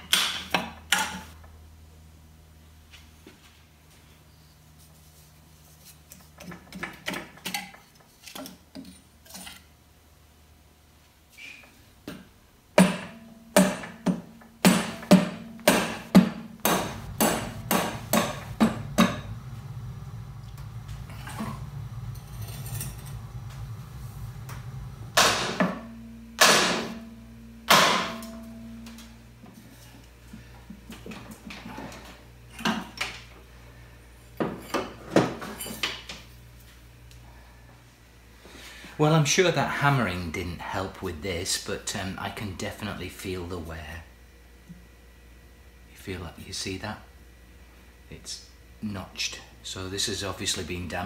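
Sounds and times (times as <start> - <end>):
faint low hum: 9.9 - 51.0.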